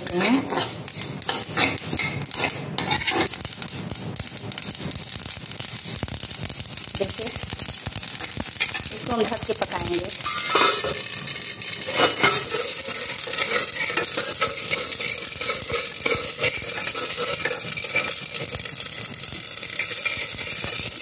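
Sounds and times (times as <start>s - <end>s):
spatula scraping and stirring: 0.0s - 5.0s, 8.2s - 21.0s
seeds crackling and popping: 0.0s - 21.0s.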